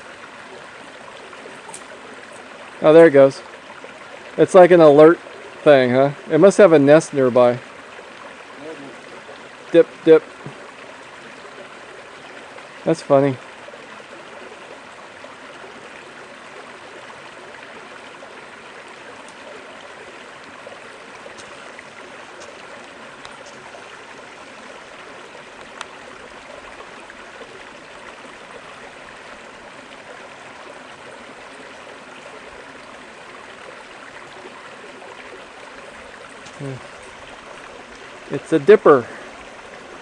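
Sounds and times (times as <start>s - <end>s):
creek water running: 0.0s - 40.0s.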